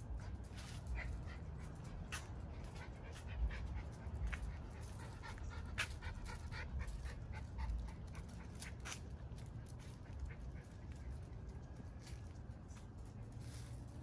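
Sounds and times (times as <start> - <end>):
dog panting: 0.0 - 11.6.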